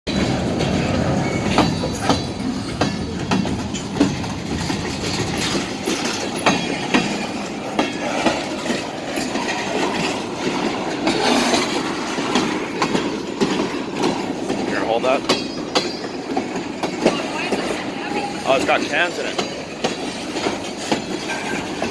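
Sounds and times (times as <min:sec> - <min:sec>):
train wheels rumbling on rails: 0:00.1 - 0:21.9
wheels clacking over rail joints: 0:00.1 - 0:21.9.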